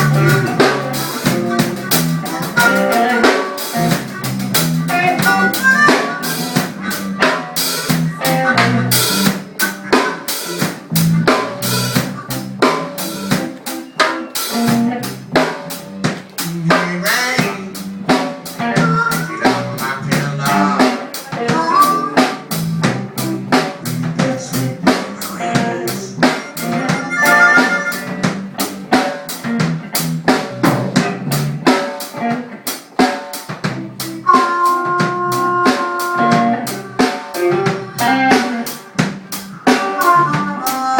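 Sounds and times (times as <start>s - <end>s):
busy drum kit: 0.0s - 40.9s
live band playing instrumental: 0.0s - 40.9s.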